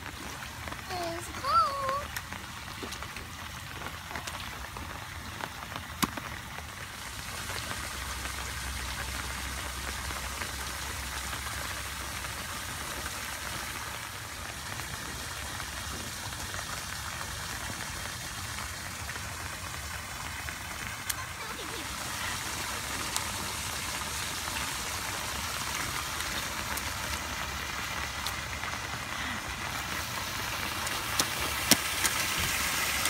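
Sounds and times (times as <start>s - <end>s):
rain on wet pavement: 0.0s - 33.0s.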